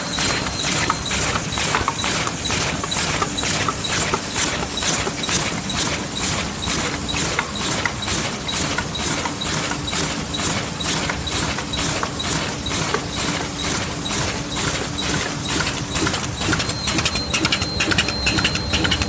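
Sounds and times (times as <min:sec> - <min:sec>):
steady machine hum: 0:00.0 - 0:07.0, 0:07.6 - 0:19.0
packaging machine strokes: 0:00.0 - 0:19.0.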